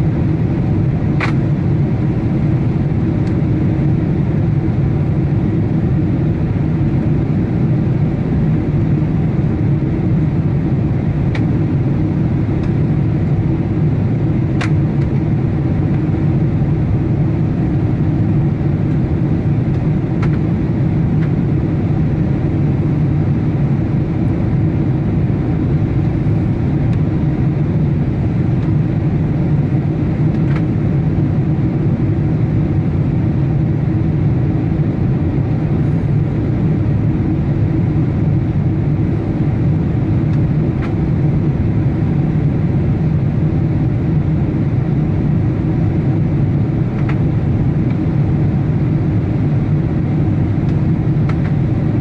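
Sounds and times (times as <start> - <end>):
aircraft cabin engine rumble: 0.0 - 52.0
airflow over airframe: 0.0 - 52.0.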